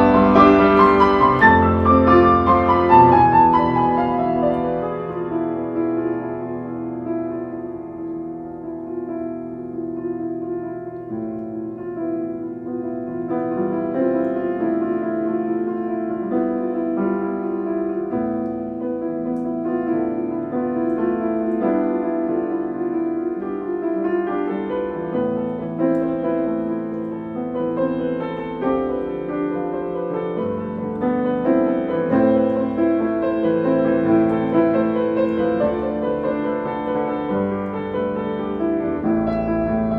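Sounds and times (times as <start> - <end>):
piano music with held notes: 0.0 - 39.9.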